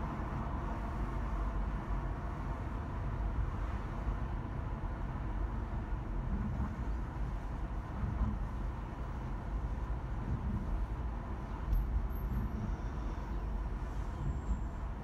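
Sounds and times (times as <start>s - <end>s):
road and tyre rumble: 0.0s - 15.0s.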